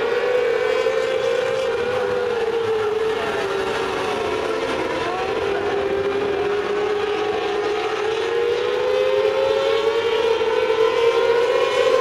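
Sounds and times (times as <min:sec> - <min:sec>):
racing car engines whining: 0:00.0 - 0:12.0.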